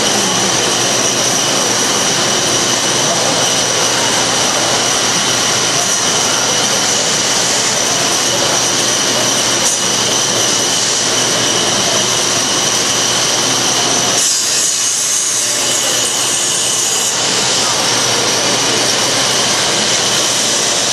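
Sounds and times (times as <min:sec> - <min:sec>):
robot electric motors whining: 0:00.0 - 0:20.9.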